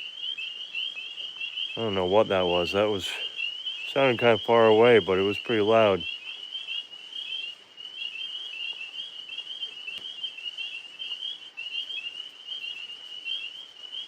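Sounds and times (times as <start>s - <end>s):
tree frogs chirping: 0.0s - 14.0s.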